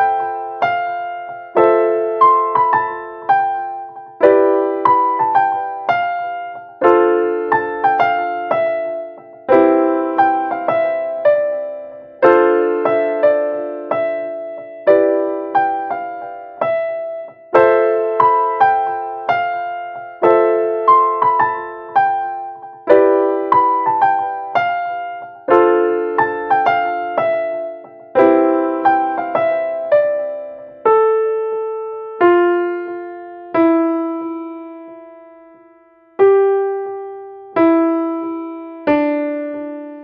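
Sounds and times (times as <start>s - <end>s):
slow gentle piano music: 0.0s - 40.0s.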